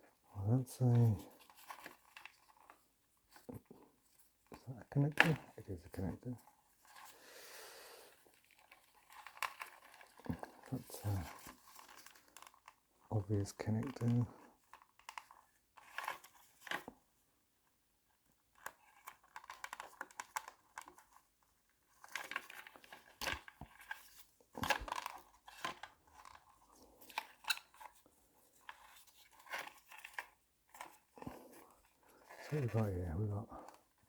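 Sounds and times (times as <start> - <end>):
wiring rustling and crinkling: 0.0 - 7.2, 8.0 - 34.0.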